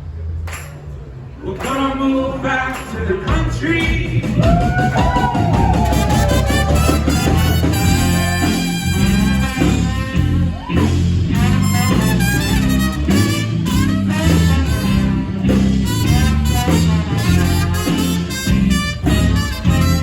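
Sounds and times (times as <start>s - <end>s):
live band playing instrumental: 4.0s - 20.0s.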